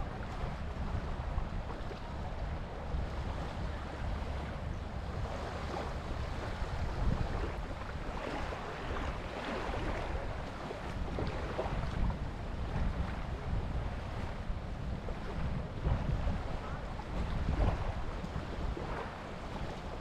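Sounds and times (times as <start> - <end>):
ocean surf breaking on beach: 0.0 - 20.0
wind buffeting microphone: 0.0 - 20.0.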